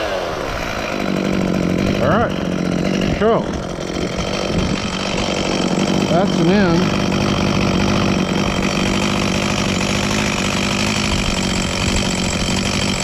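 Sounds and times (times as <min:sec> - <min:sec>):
chainsaw idling: 0:00.0 - 0:13.0.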